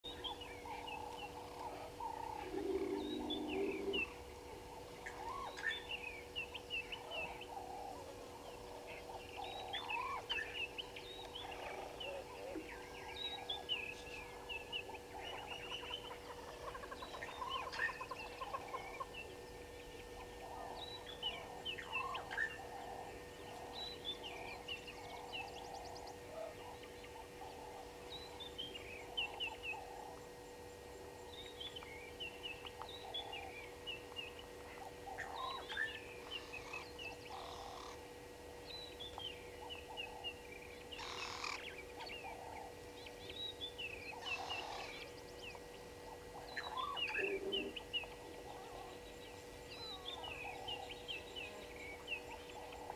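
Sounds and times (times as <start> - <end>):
low electrical hum: 0.0 - 52.9
low clucking bird calls: 0.1 - 31.9, 39.1 - 52.9.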